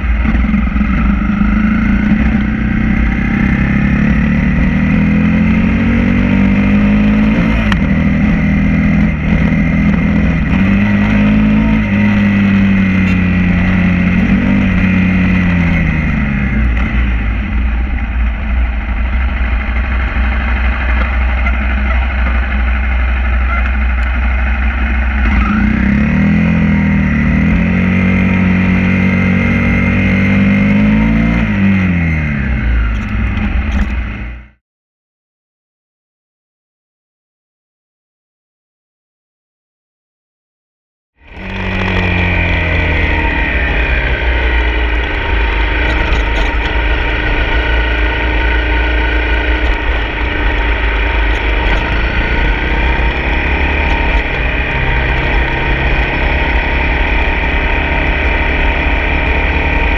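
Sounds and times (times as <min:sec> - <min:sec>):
dirt bike engine revving: 0:00.0 - 0:18.1, 0:18.8 - 0:34.4, 0:41.2 - 0:59.9.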